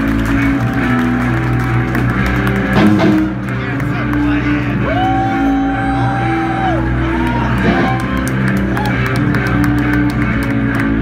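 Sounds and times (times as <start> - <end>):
bass guitar: 0.0 - 11.0
drums: 0.0 - 11.0.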